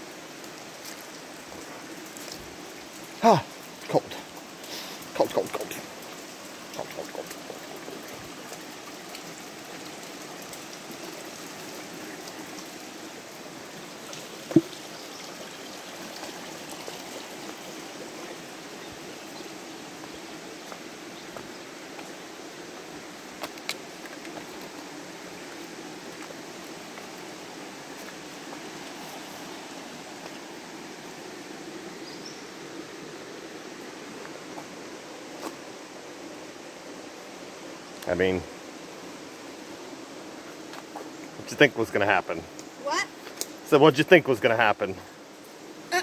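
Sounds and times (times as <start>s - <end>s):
creek flowing over rocks: 0.0s - 46.0s.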